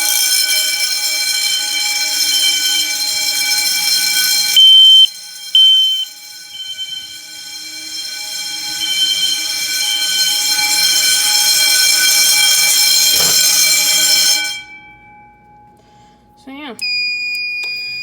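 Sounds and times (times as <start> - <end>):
fire alarm horns: 0.0 - 16.2.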